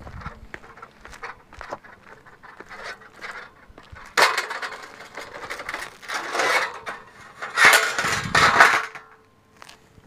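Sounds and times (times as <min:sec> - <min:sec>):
footsteps scuffing on shingle roof: 0:00.0 - 0:09.0, 0:09.6 - 0:09.9.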